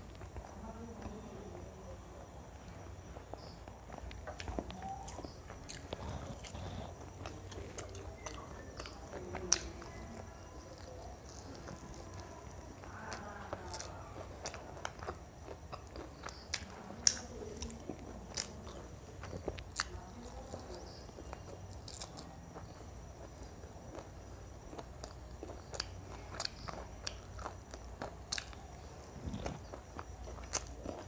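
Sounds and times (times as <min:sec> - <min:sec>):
person chewing food: 0:02.8 - 0:31.0.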